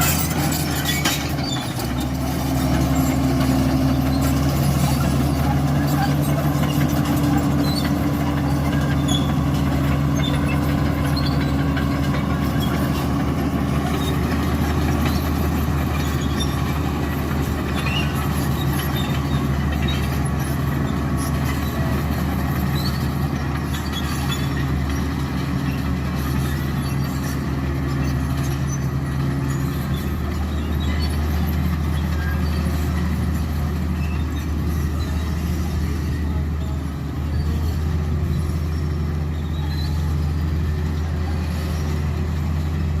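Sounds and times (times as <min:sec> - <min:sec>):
bulldozer diesel engine droning: 0:00.0 - 0:43.0.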